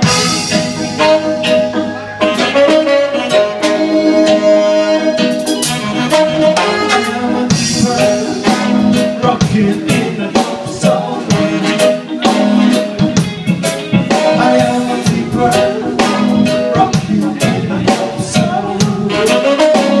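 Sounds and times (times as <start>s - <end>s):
drum kit steady beat: 0.0s - 20.0s
live band playing: 0.0s - 20.0s.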